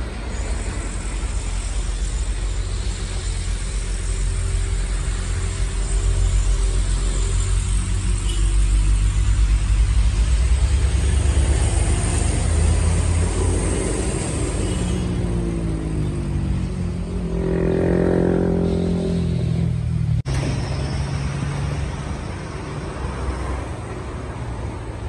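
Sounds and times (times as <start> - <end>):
truck diesel engines rumbling: 0.0 - 25.0.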